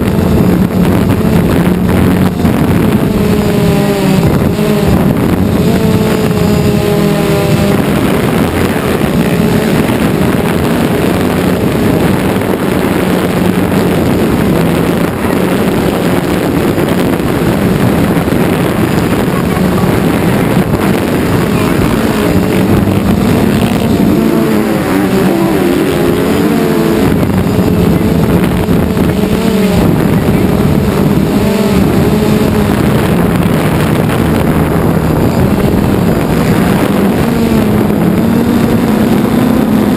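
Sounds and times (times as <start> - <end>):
drone propellers buzzing: 0.0 - 39.9
motocross engines revving: 0.0 - 39.9.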